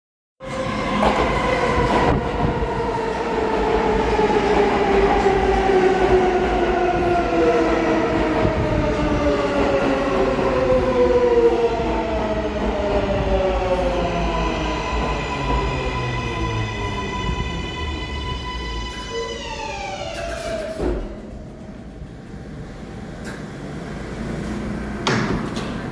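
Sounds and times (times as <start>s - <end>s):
subway train motors whining: 0.4s - 25.9s
train wheels rumbling on rails: 0.4s - 25.9s.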